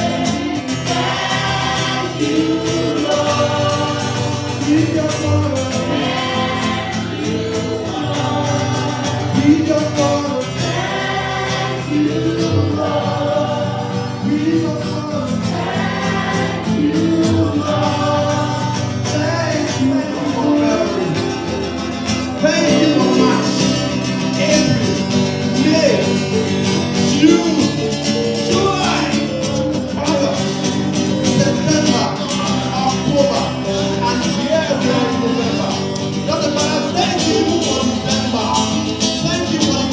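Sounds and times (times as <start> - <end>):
gospel group singing: 0.0 - 39.9
instrumental backing: 0.0 - 39.9
tambourine: 0.0 - 39.9.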